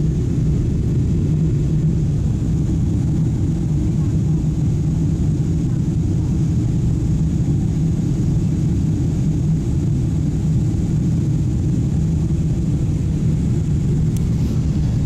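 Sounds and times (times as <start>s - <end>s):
jet engines and airflow rumble: 0.0s - 15.0s.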